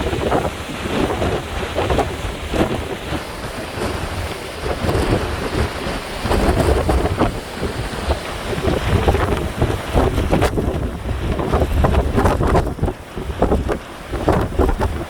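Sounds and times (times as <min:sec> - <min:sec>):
big waves breaking: 0:00.0 - 0:15.0
wind buffeting microphone: 0:00.0 - 0:15.0.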